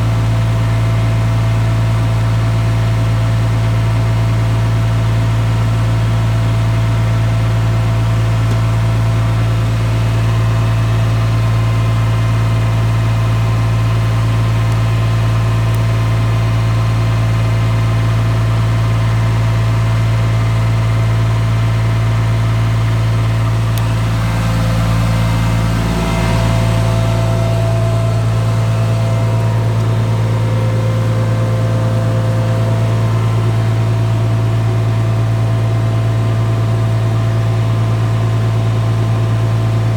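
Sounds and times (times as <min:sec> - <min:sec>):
diesel tractor engine drone: 0:00.0 - 0:39.9.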